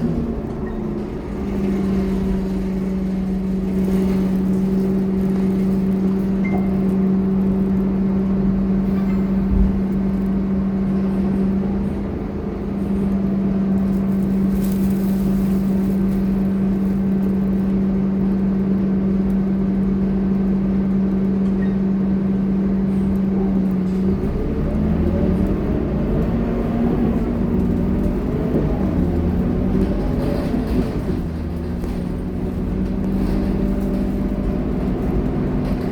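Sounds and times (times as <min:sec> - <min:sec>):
bus diesel engine running: 0:00.0 - 0:35.9.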